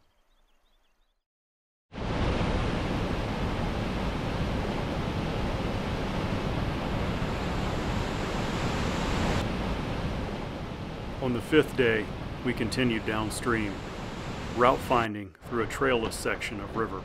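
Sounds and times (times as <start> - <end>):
water rushing over rapids: 2.0 - 16.8.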